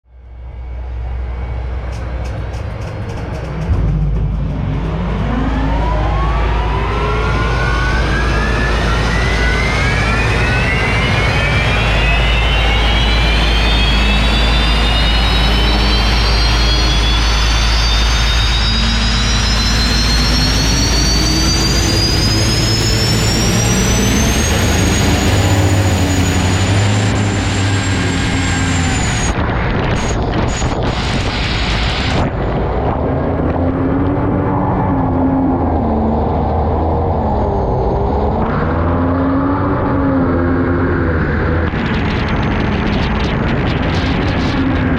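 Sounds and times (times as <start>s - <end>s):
turbine engine whine: 0.0s - 44.9s.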